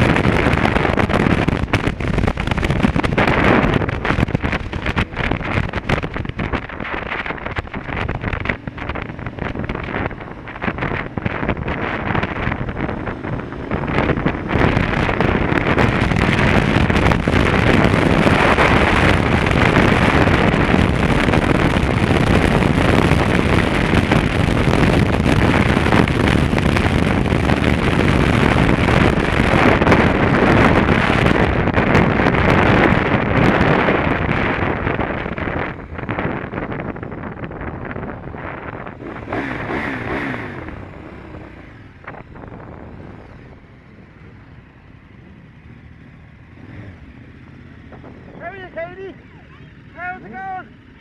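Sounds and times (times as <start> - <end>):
motorcycle engine: 0.0 - 51.0
road noise: 0.0 - 51.0
wind rushing over microphone: 0.0 - 51.0.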